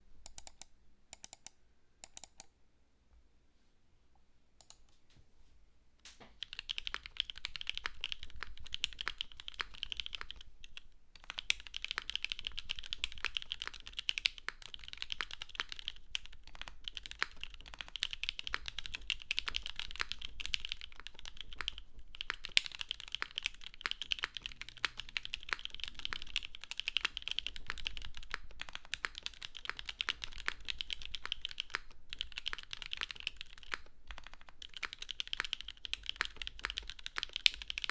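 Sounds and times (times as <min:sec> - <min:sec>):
typing on mechanical keyboard: 0:00.2 - 0:02.5, 0:06.3 - 0:37.9.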